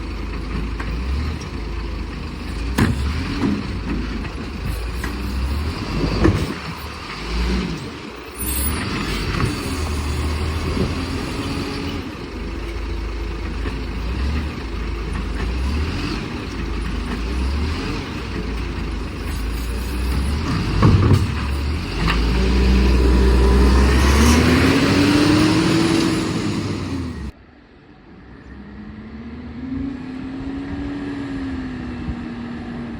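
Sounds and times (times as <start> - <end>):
garbage truck engine running: 0.0 - 27.4.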